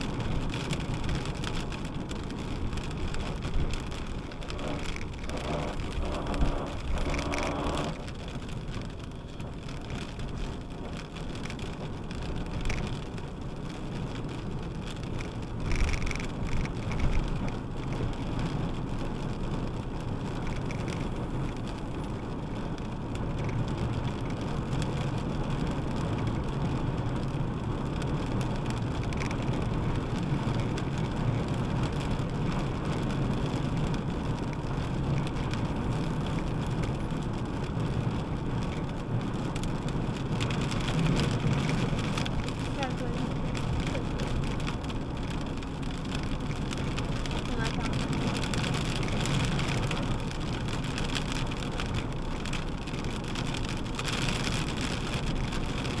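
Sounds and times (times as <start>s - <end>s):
rain hitting windshield: 0.0s - 56.0s
tyre and road noise: 0.0s - 56.0s.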